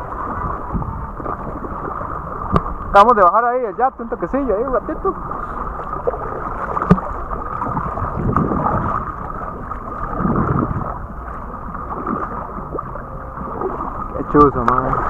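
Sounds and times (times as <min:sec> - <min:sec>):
water sloshing against kayak: 0:00.0 - 0:15.0.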